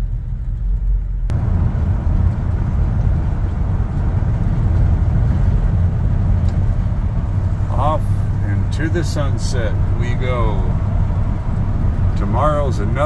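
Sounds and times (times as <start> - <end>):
pickup engine rumble: 0.0 - 13.0
road and wind noise: 0.0 - 13.0.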